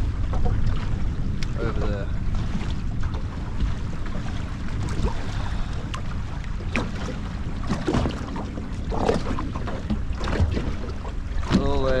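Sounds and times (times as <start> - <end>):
splashes: 0.0 - 12.0
water lapping against boat hull: 0.0 - 12.0
wind rumbling on microphone: 0.0 - 12.0.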